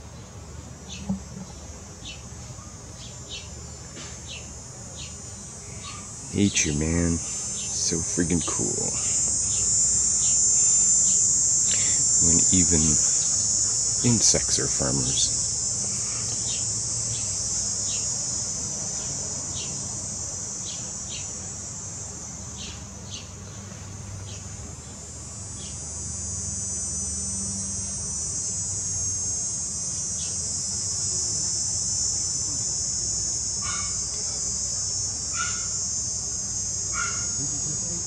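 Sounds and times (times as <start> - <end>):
faint low hum: 0.0 - 38.0
insects trilling: 0.0 - 38.0.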